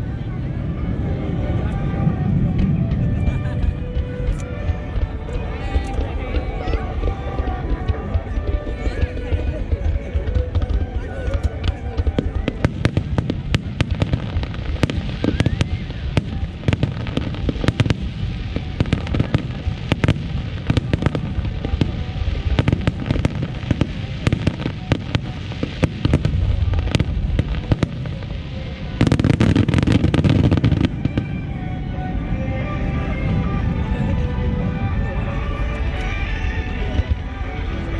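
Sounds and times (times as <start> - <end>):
fireworks bursting: 0.0 - 37.9.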